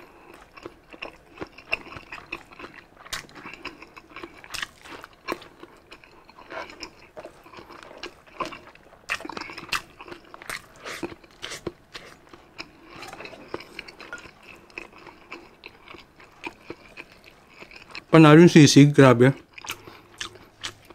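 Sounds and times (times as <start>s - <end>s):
person chewing and biting food: 0.0s - 18.1s, 19.4s - 20.9s.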